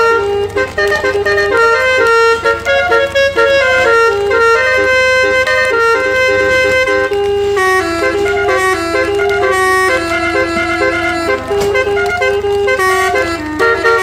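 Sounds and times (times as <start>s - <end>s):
bus air horn playing a tune: 0.0s - 14.0s
low steady rumble: 0.0s - 14.0s.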